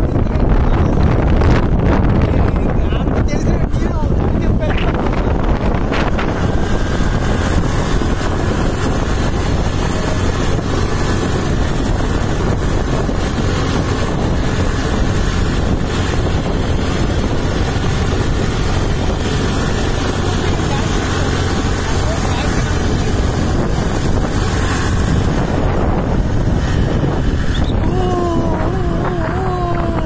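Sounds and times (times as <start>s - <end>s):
tyres on paved road: 0.0s - 30.0s
vehicle engine: 0.0s - 30.0s
wind on microphone: 0.0s - 30.0s.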